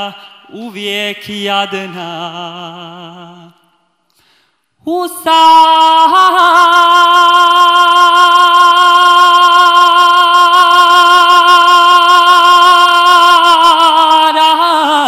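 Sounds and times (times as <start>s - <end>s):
man singing a long high note: 0.0s - 3.6s, 4.9s - 15.0s.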